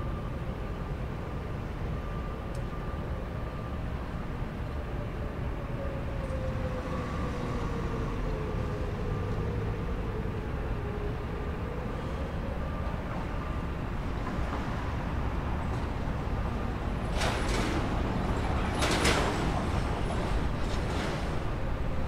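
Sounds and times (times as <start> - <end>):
distant warning siren wailing: 0.0 - 22.0
low traffic rumble: 0.0 - 22.0.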